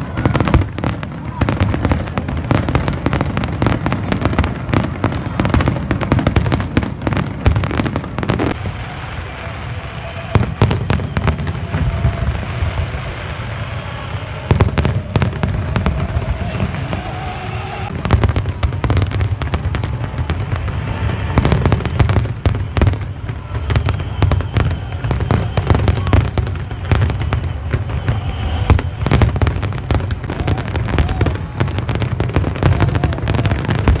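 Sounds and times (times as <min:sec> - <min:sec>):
fireworks bursts rumbling: 0:00.0 - 0:34.0
fireworks cracks and crackles: 0:00.0 - 0:34.0.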